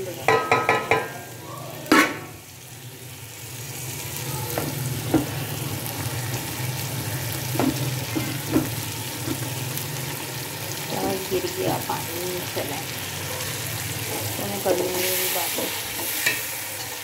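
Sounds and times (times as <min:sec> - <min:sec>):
food sizzling in a pot: 0:00.0 - 0:17.0.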